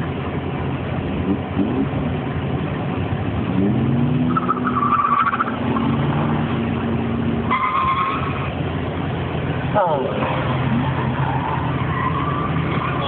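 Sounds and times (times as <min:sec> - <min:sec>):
distant car engines revving: 0:00.0 - 0:13.0.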